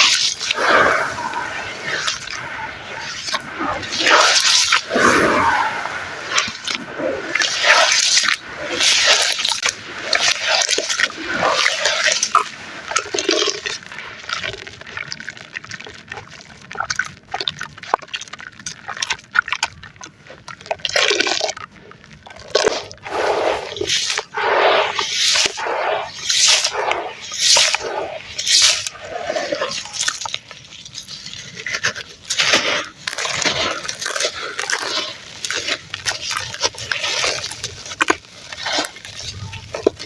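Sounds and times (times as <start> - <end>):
wet sand squelching in foamy water: 0.0 - 15.2, 22.5 - 40.0
small crackles and clicks: 0.0 - 40.0.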